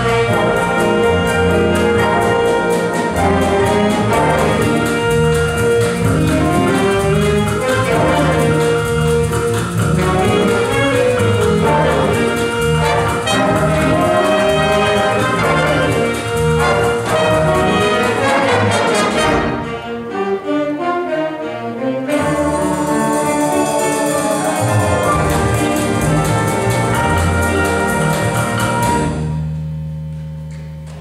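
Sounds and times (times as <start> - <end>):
large ensemble with brass: 0.0 - 31.0.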